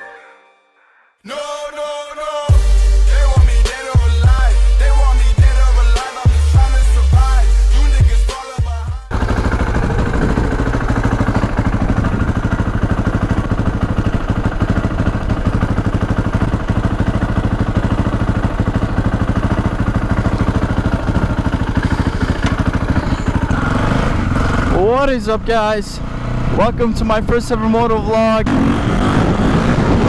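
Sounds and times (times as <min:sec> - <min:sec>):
dirt bike engine idling: 0:02.5 - 0:28.8.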